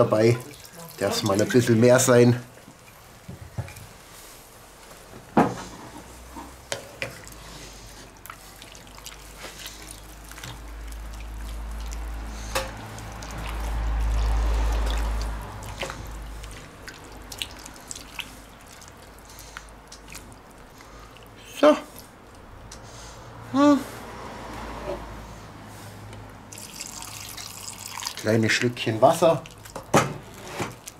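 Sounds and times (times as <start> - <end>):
stew sloshing and dripping: 0.0 - 5.1, 6.2 - 22.6, 26.4 - 30.9.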